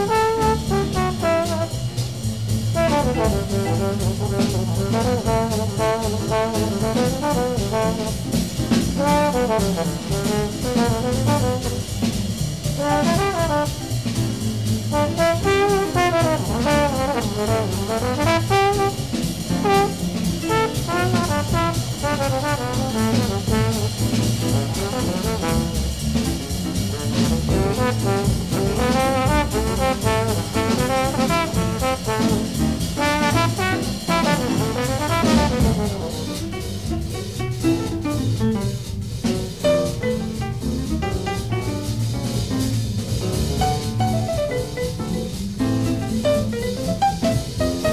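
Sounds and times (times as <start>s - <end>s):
jazz bass piano and drums: 0.0s - 47.9s
valve trombone improvising: 0.0s - 47.9s.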